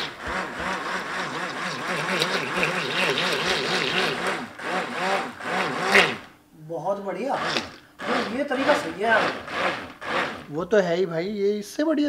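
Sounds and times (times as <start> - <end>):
hand blender motor wavering: 0.0 - 6.3, 7.2 - 10.6.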